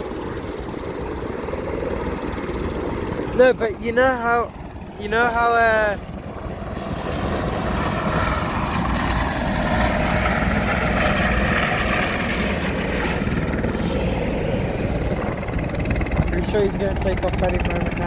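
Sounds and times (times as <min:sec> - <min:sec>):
helicopter turbine and rotor: 0:00.0 - 0:18.0.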